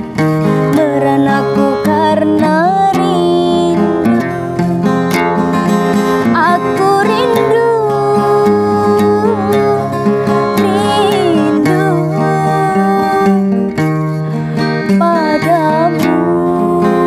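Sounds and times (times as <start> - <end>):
acoustic guitar: 0.0 - 17.0
woman singing: 0.4 - 5.0, 6.2 - 17.0.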